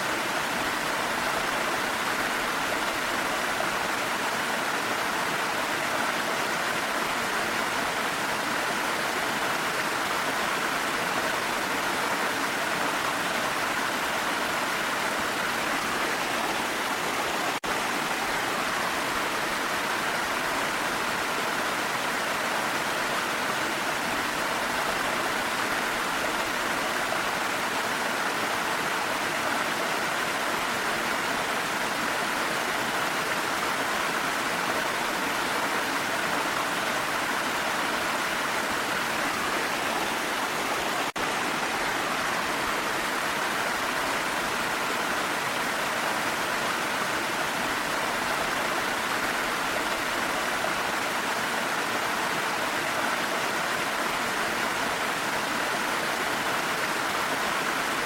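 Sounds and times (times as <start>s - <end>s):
rain: 0.0s - 58.0s
waterfall rushing: 0.0s - 58.0s.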